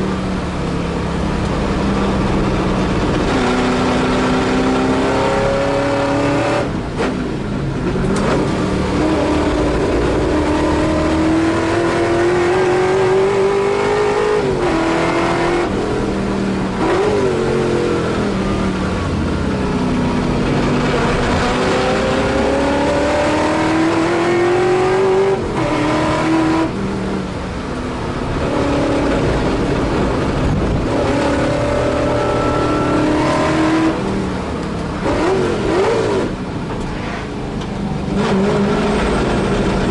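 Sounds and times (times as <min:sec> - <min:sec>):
racing car engine at full throttle: 0:00.0 - 0:39.9.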